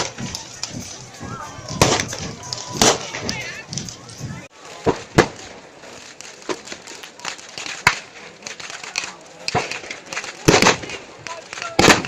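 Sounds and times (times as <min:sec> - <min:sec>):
crowd chatter: 0:00.0 - 0:12.0
firecrackers banging: 0:00.0 - 0:12.0.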